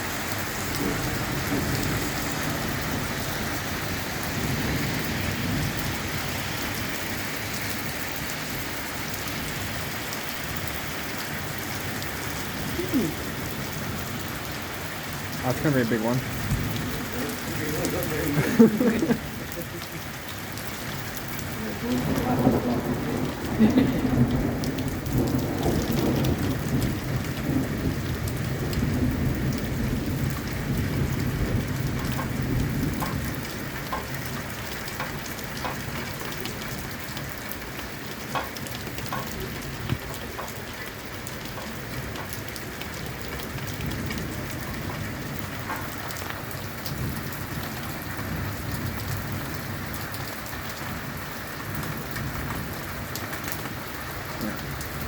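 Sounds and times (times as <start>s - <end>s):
thunder rumbling: 0.0s - 6.9s, 10.6s - 50.2s
heavy rain: 0.0s - 55.0s.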